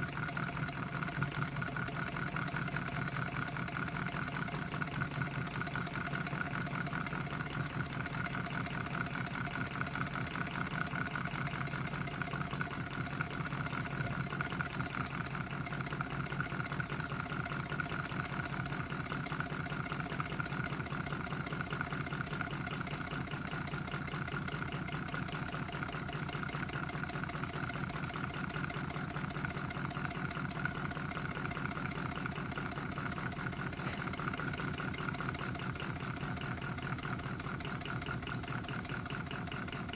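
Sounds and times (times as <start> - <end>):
engine mechanical rattle: 0.0 - 39.9.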